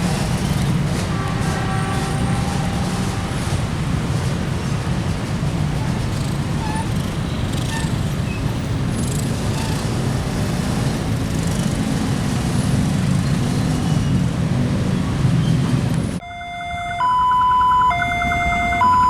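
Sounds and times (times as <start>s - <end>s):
train passing rumble: 0.0s - 19.0s.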